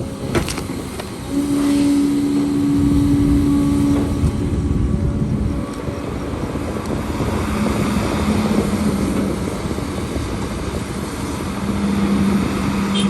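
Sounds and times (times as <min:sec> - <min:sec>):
heavy machinery diesel engine: 0:00.0 - 0:13.0.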